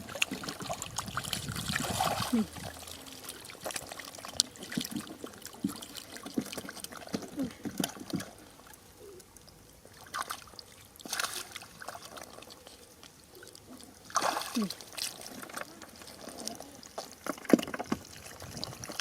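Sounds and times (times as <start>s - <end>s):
water splashing and trickling: 0.0s - 19.0s.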